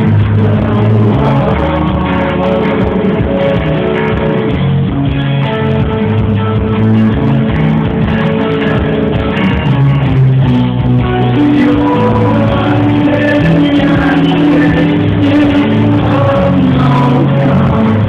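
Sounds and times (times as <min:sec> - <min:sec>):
electric guitars: 0:00.0 - 0:18.0
rock band playing: 0:00.0 - 0:18.0.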